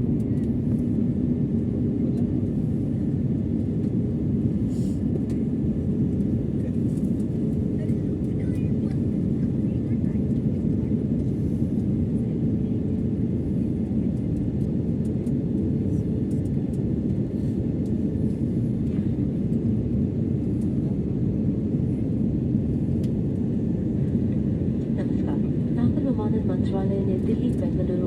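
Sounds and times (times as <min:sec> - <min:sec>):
jet airliner cabin rumble: 0:00.0 - 0:28.0.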